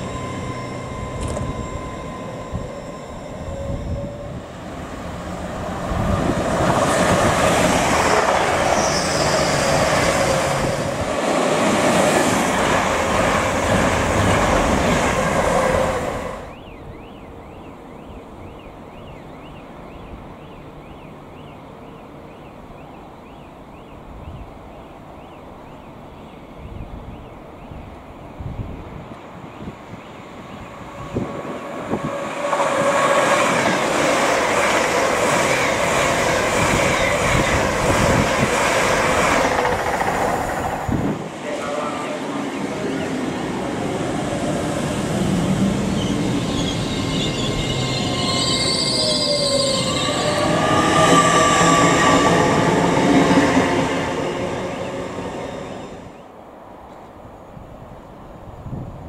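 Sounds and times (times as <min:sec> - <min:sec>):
train passing at speed: 0:00.0 - 0:59.0
wheels rushing on rail: 0:00.0 - 0:59.0.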